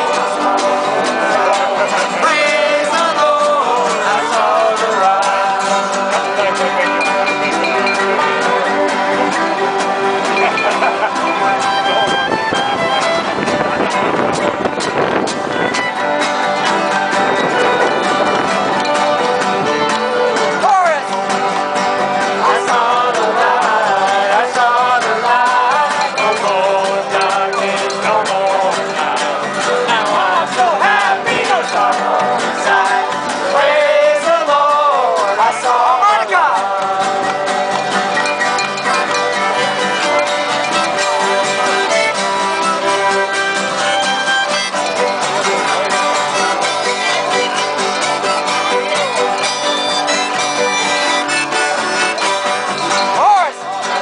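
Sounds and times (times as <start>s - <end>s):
string band playing: 0.0s - 54.0s
voices singing along: 0.0s - 54.0s.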